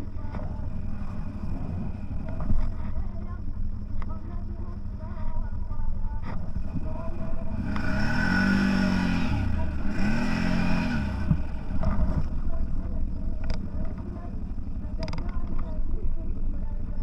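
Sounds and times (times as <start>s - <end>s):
off-road vehicle engine revving: 0.0s - 4.2s, 5.0s - 15.8s.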